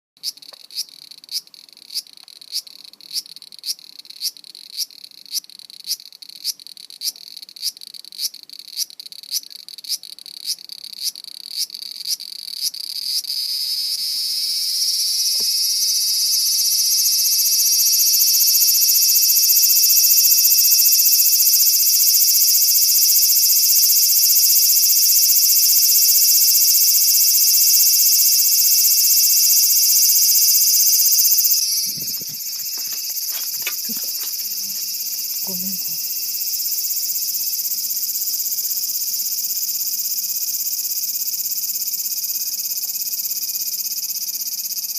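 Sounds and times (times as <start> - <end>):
cicada buzzing: 0.2 - 44.9.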